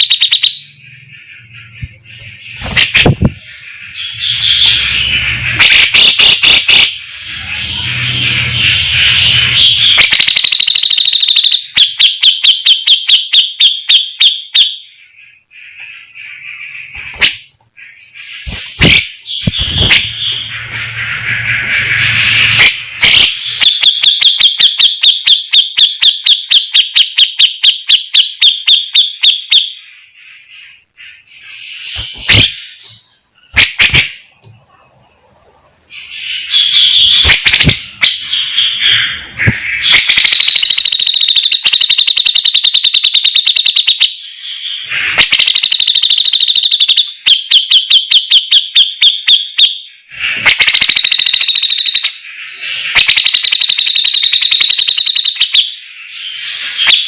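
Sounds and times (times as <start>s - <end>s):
bird calling sharp repeated notes: 0.0s - 34.4s, 35.9s - 57.0s.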